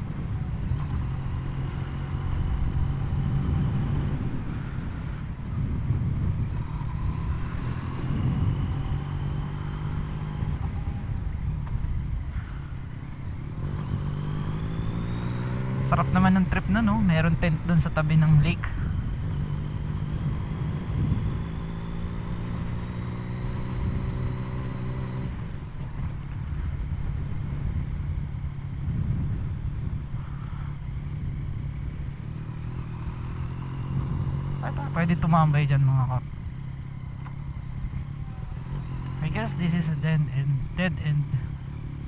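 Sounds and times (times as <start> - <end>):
wind rumble on microphone: 0.0 - 34.7
motorcycle engine running: 0.0 - 42.0.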